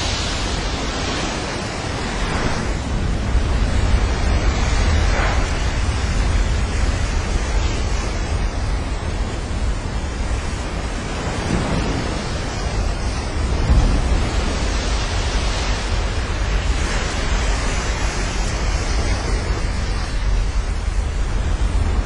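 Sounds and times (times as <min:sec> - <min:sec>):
sea waves surging: 0:00.0 - 0:22.0
wind buffeting microphone: 0:00.0 - 0:22.0.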